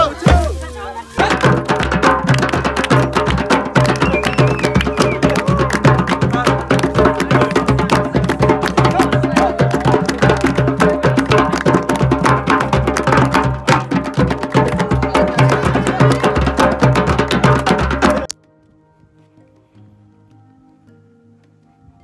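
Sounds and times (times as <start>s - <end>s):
fast hand percussion: 0.0s - 18.3s.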